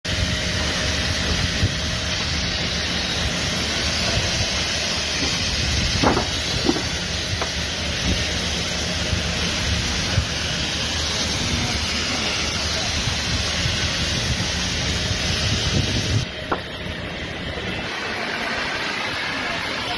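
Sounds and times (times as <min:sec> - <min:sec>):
water spray hissing: 0:00.1 - 0:16.4
fire noise: 0:00.1 - 0:19.9.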